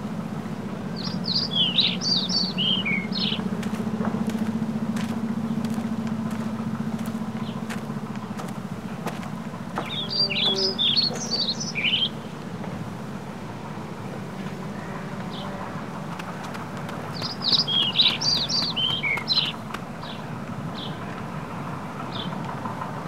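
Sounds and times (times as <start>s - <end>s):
steady low hum: 0.0s - 23.0s
songbird chirping: 0.4s - 22.5s.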